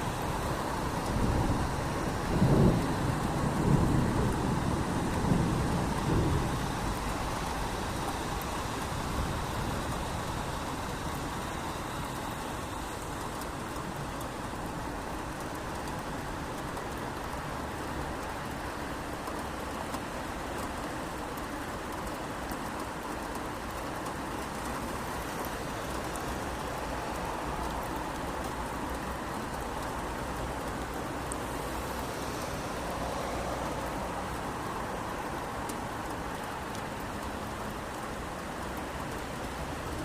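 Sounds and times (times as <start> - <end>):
rain falling on street: 0.0 - 40.0.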